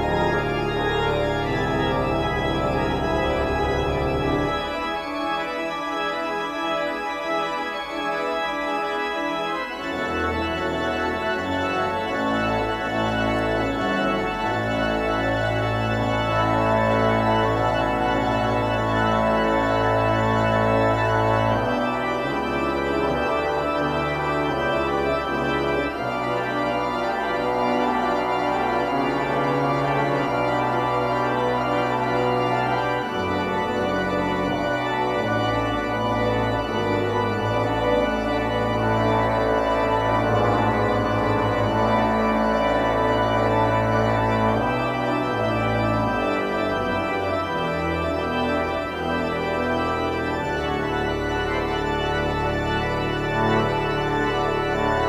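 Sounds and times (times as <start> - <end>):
church organ playing: 0.0 - 55.0.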